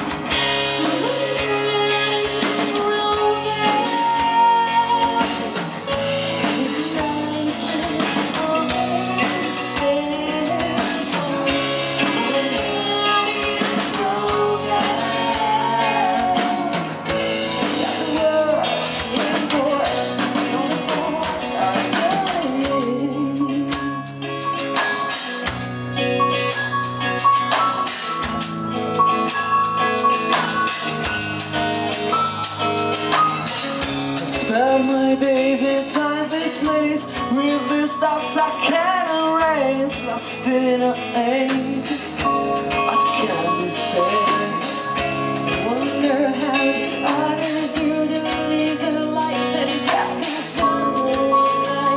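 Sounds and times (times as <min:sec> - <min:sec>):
gliding lead guitar notes: 0:00.0 - 0:51.9
rock band playing: 0:00.0 - 0:51.9.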